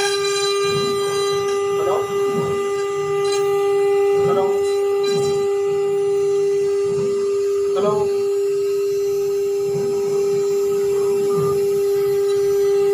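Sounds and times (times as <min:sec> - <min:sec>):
router spindle whining: 0:00.0 - 0:12.9.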